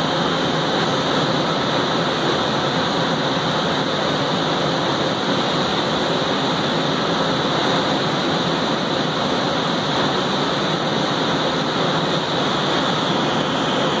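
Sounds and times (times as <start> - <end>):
machine whir and hiss: 0.0 - 14.0.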